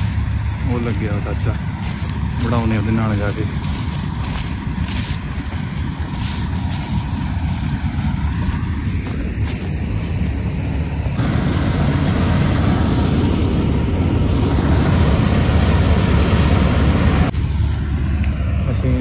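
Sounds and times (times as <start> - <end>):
combine harvester engine drone: 0.0 - 19.0.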